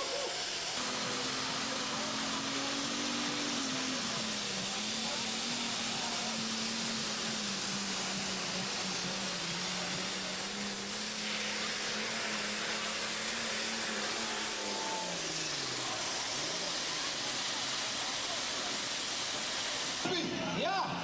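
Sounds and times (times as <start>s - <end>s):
machine engine droning: 0.0s - 20.1s.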